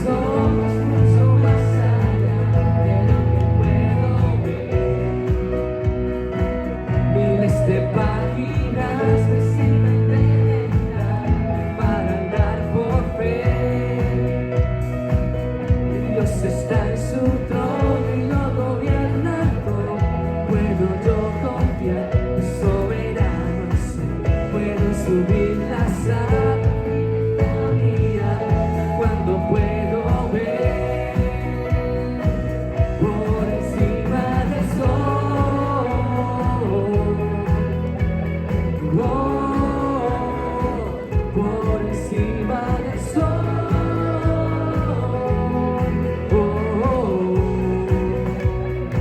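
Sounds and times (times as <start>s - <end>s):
bass: 0.0s - 49.0s
drum kit beat: 0.0s - 49.0s
electric and acoustic guitars: 0.0s - 49.0s
piano: 0.0s - 49.0s.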